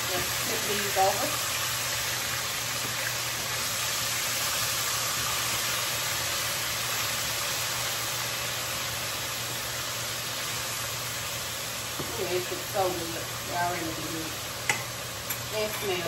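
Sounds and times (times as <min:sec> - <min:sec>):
pork chops sizzling in pan: 0:00.0 - 0:16.0.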